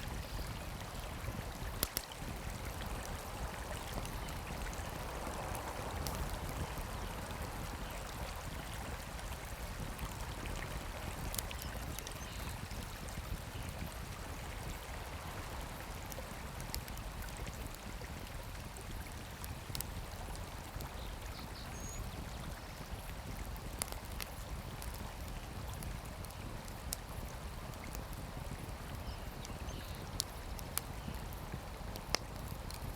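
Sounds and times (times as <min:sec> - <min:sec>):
campfire crackling: 0:00.0 - 0:32.9.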